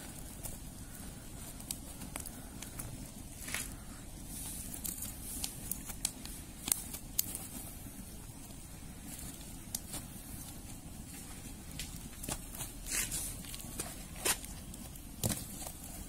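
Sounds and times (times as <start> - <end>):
embers crackling and popping: 0.0 - 16.0.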